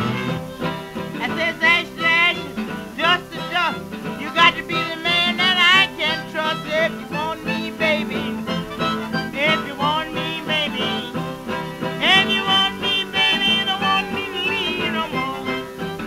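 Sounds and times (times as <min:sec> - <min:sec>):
acoustic country blues music: 0:00.0 - 0:16.0.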